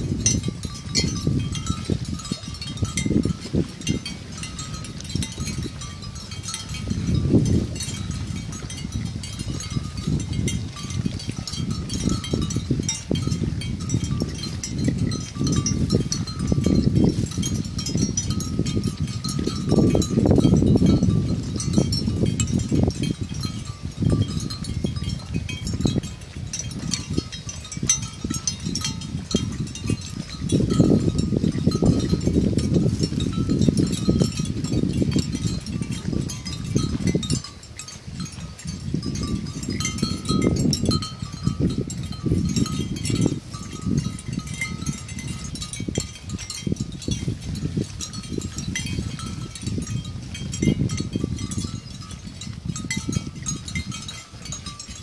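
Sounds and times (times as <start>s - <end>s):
buffalo crunching and tearing grass: 0.0s - 55.0s.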